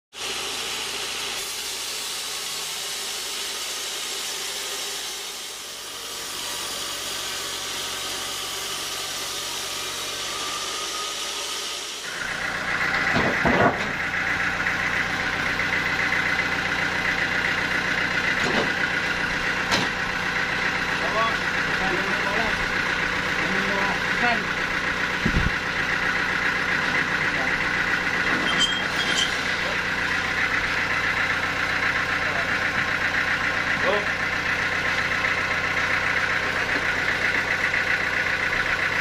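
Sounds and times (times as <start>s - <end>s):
engine with high whine: 0.1s - 39.0s
band saw cutting log: 0.2s - 39.0s.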